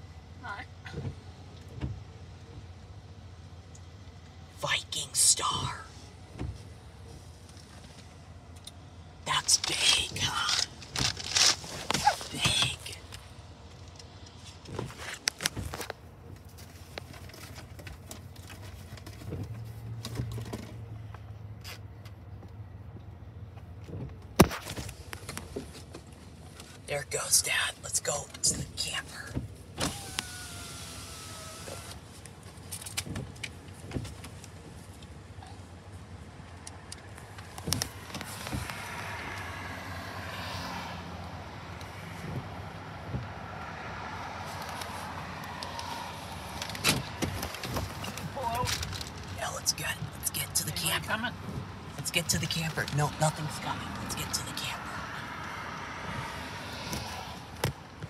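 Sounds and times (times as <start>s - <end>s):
car engine humming: 0.0s - 58.0s.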